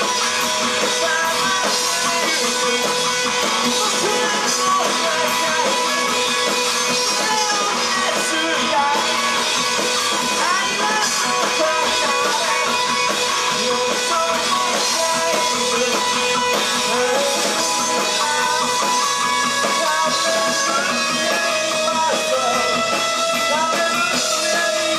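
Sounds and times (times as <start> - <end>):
electric guitar with bending notes: 0.0 - 24.9
rock band playing: 0.0 - 24.9.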